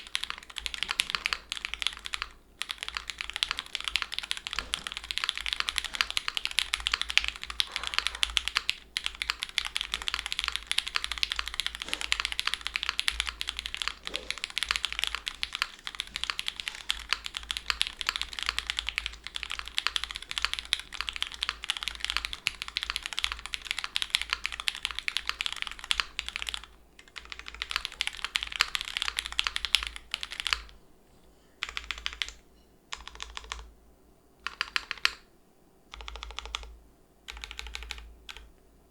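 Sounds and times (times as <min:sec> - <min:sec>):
mechanical keyboard typing: 0:00.0 - 0:30.8, 0:31.6 - 0:33.7, 0:34.4 - 0:35.3, 0:35.9 - 0:38.5.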